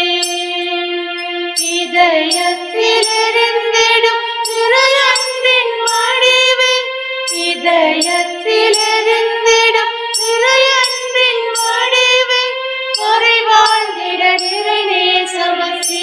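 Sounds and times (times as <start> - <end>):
hymn singing: 0.0 - 16.0
sustained instrumental accompaniment: 0.0 - 16.0.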